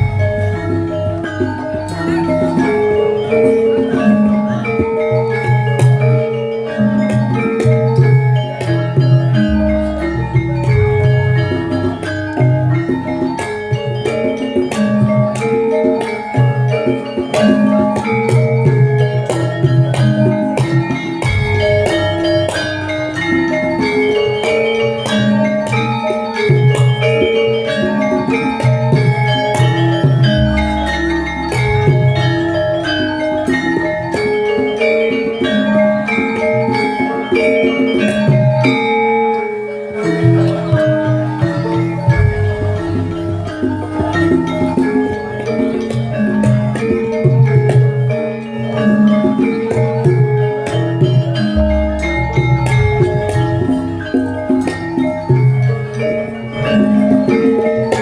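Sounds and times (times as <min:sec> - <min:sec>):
metallophones ringing melody: 0:00.0 - 0:58.0.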